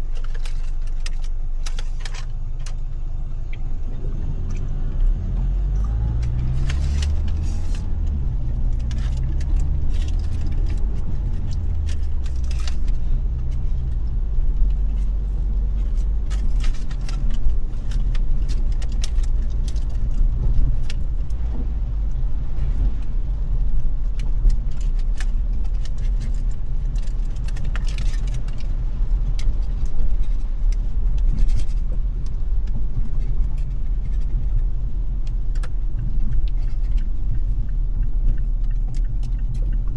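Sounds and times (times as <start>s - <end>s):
car engine and road rumble: 0.0s - 39.9s
raindrops ticking on car: 6.2s - 39.9s.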